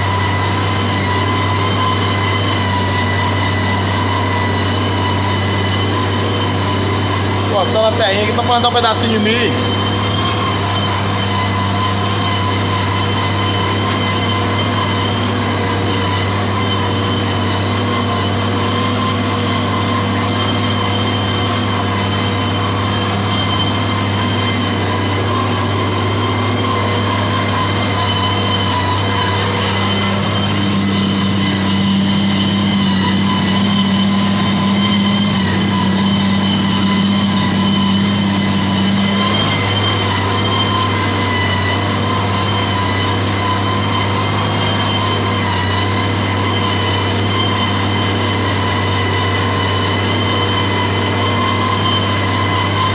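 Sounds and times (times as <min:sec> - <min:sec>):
high-pitched metallic whines: 0:00.0 - 0:52.9
tractor diesel engine under load: 0:00.0 - 0:52.9.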